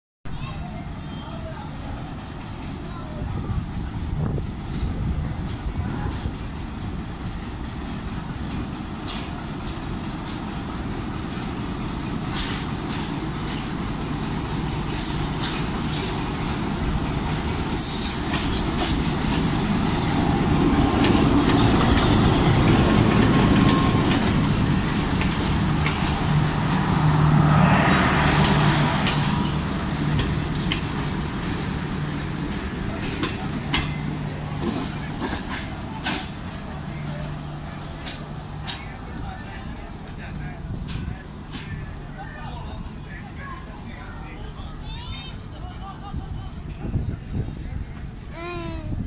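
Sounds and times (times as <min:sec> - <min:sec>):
diesel locomotive engine rumble: 0:00.3 - 0:49.0
passenger coaches rolling past: 0:00.3 - 0:49.0
rail noise: 0:00.3 - 0:49.0.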